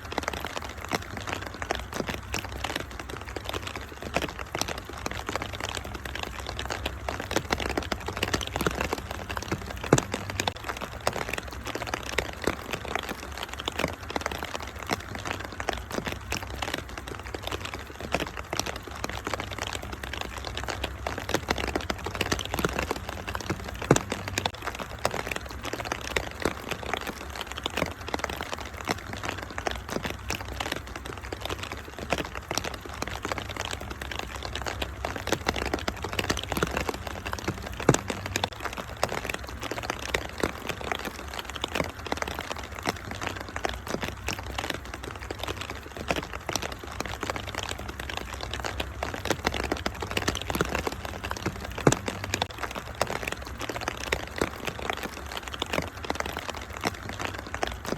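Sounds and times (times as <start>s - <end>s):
rain: 0.0s - 57.9s
wood fire crackling: 0.0s - 57.9s.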